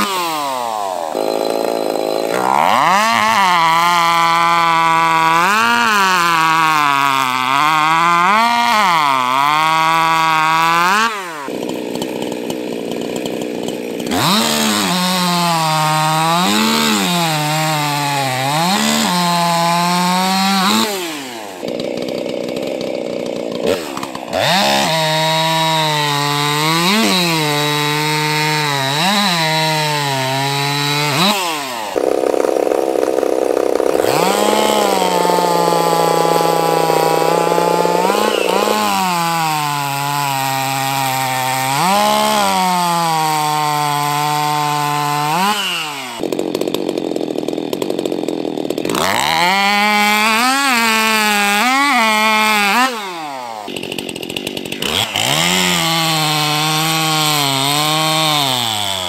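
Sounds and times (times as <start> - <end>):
chainsaws cutting wood at full throttle: 0.0 - 59.0.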